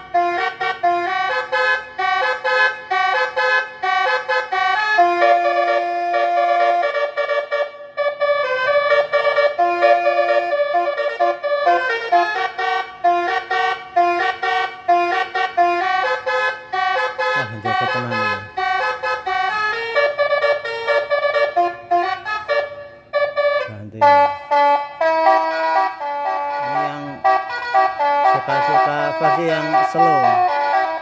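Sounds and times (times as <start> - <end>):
electronic horn melody: 0.0 - 31.0.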